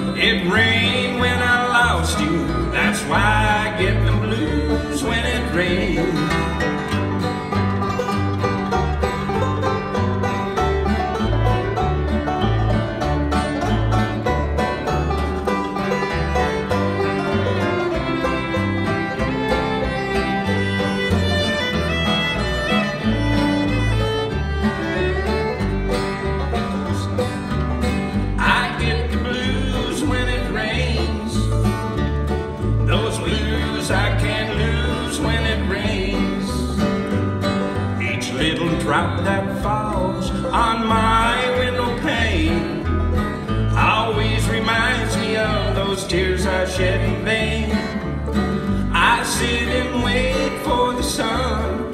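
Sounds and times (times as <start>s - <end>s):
banjo: 0.0s - 51.9s
fiddle playing lead: 0.0s - 51.9s
strummed acoustic guitar: 0.0s - 51.9s.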